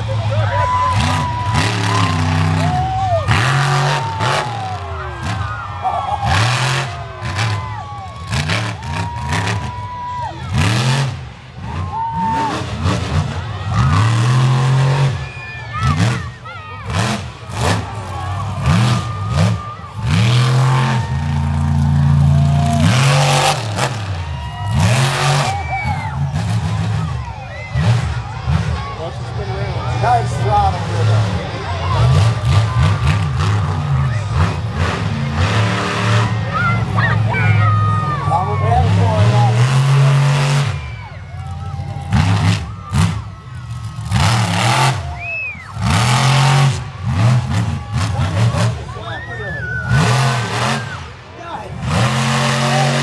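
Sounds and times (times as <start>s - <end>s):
truck engine revving hard: 0.0s - 53.0s.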